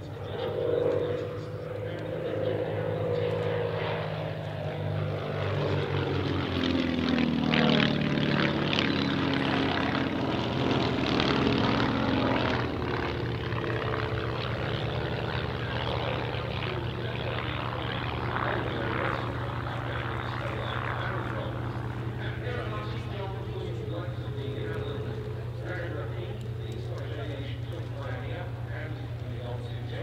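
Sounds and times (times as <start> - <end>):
propeller aircraft passing overhead: 0.0 - 30.0.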